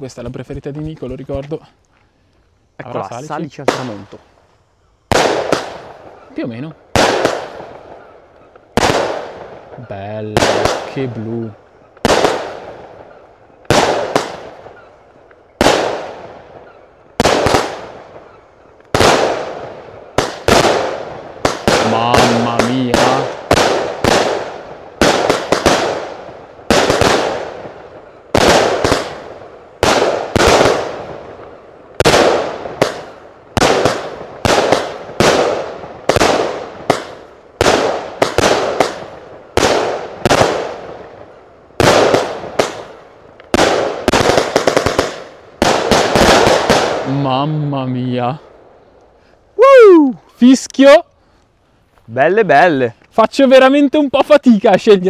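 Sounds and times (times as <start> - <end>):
firework cake firing: 2.8 - 4.4, 5.0 - 48.4.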